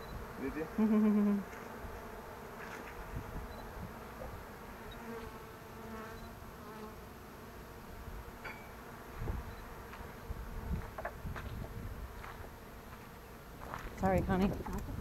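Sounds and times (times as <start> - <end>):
bee buzzing close by: 0.0 - 15.0
hum of many bees: 0.0 - 15.0.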